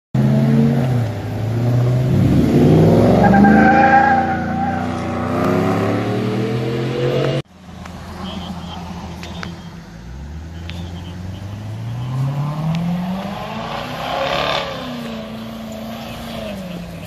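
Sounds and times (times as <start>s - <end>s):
car engines revving and accelerating: 0.2s - 17.0s.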